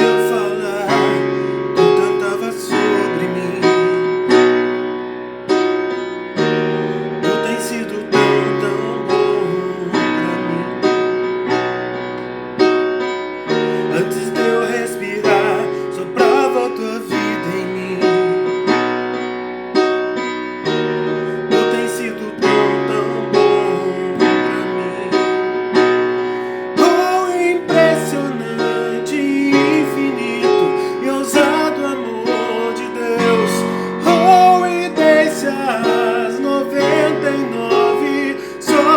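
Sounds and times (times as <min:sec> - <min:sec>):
electronic keyboard chords: 0:00.0 - 0:38.9
wavering keyboard melody: 0:00.0 - 0:38.9.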